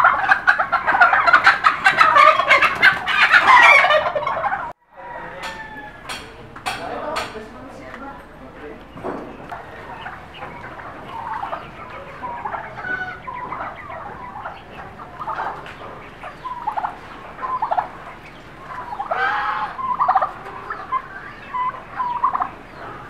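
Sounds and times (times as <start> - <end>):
chicken clucking and squawking: 0.0 - 23.0.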